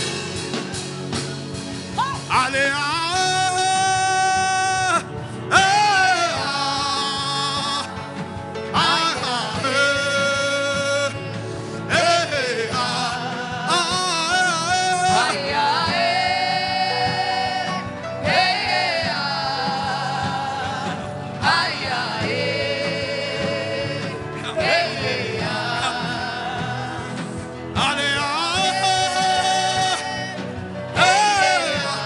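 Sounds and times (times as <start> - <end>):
sustained backing music: 0.0 - 32.0.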